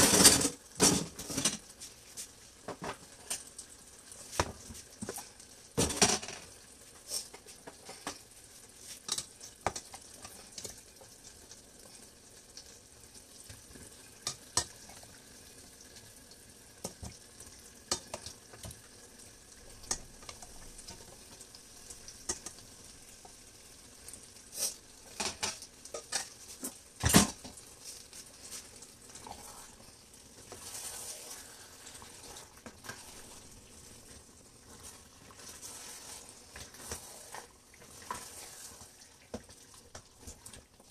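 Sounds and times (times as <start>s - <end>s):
soft sizzle from pot: 0.0s - 40.9s.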